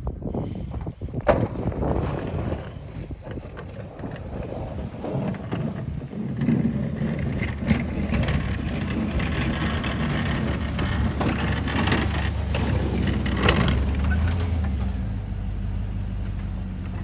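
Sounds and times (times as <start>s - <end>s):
wind buffeting microphone: 0.0s - 17.0s
vehicle engine humming: 1.5s - 17.0s.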